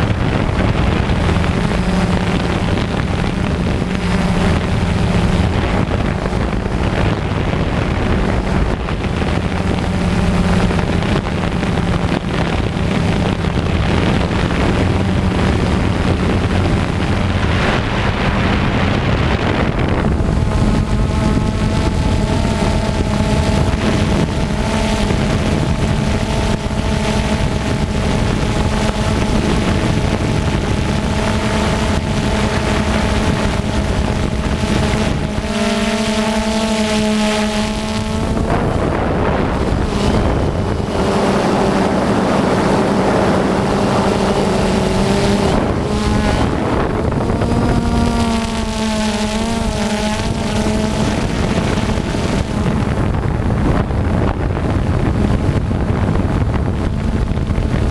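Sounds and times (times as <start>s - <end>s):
quadcopter motors whining: 0.0s - 57.9s
wind rushing over microphone: 0.0s - 57.9s.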